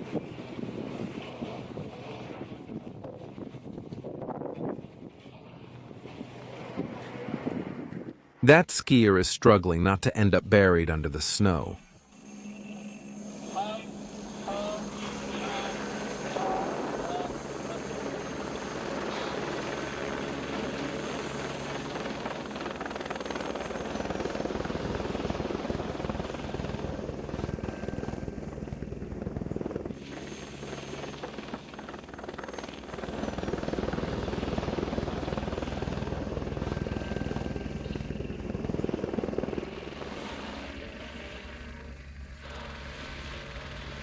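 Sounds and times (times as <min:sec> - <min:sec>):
helicopter rotor and engine drone: 0:00.0 - 0:08.4, 0:09.8 - 0:44.0.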